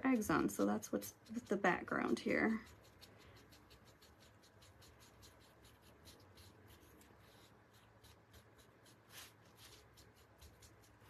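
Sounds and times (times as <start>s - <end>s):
paintbrush scratchy strokes: 0.0s - 11.0s.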